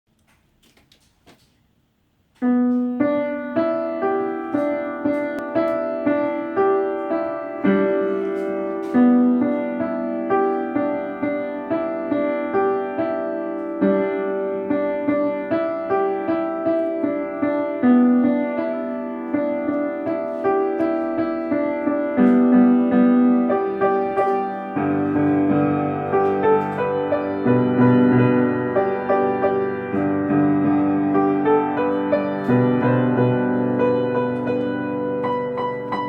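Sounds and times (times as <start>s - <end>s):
piano music: 2.4s - 36.0s.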